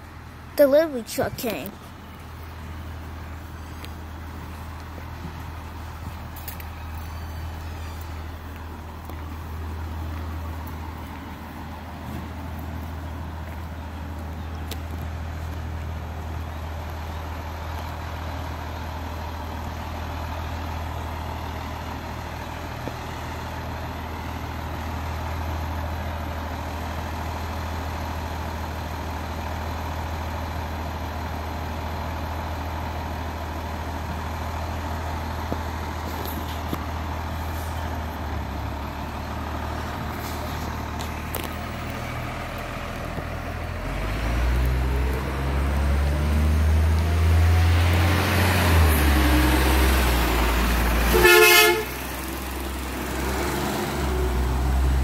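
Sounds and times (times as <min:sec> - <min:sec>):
truck engine idling and revving: 0:00.0 - 0:55.0.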